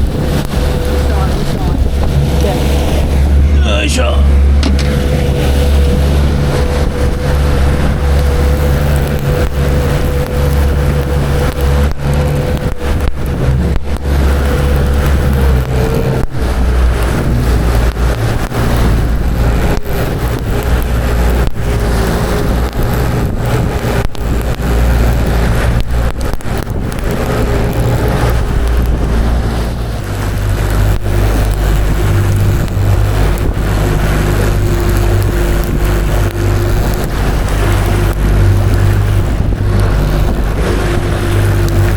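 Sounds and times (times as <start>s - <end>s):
motorboat engine running: 0.0s - 41.9s
rush of wind and water: 0.0s - 41.9s.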